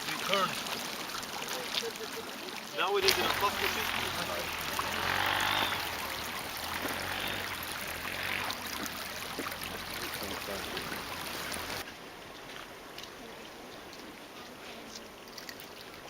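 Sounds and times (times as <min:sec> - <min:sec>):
running water splashing: 0:00.0 - 0:16.0.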